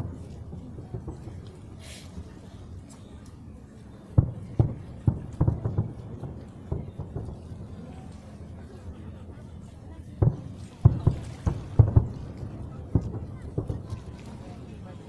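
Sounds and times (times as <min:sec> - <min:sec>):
distant fireworks thuds: 0:00.0 - 0:02.4, 0:04.1 - 0:09.4, 0:10.2 - 0:14.9.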